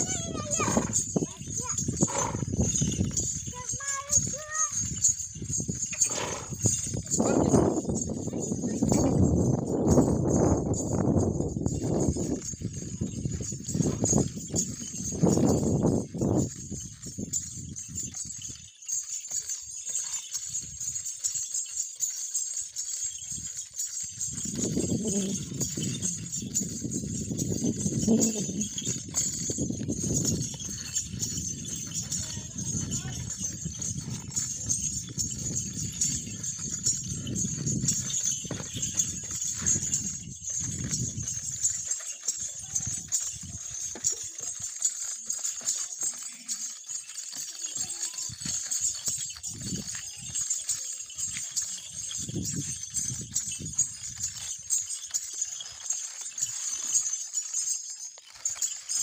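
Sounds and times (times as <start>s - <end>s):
horse hooves stamping: 0.0s - 59.0s.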